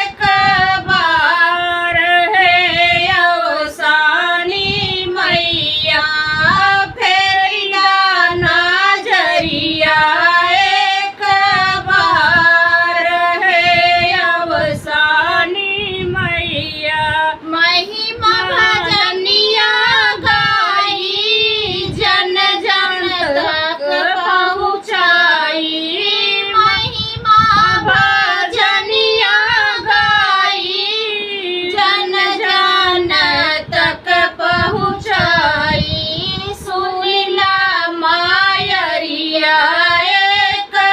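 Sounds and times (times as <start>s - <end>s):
woman singing: 0.0s - 40.9s.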